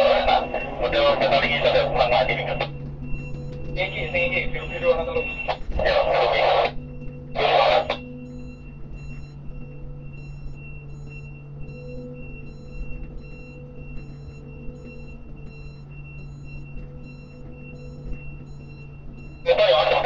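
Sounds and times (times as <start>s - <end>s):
crane drive hum: 0.0s - 20.0s
electronic warning beep: 0.0s - 20.0s.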